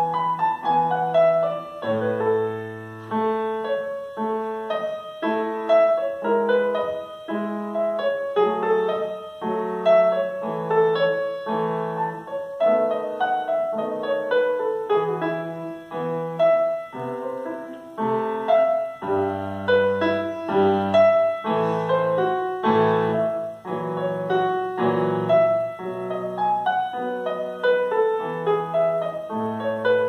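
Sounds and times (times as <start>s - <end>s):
grand piano melody and chords: 0.0s - 30.0s
low piano bass notes: 0.0s - 30.0s.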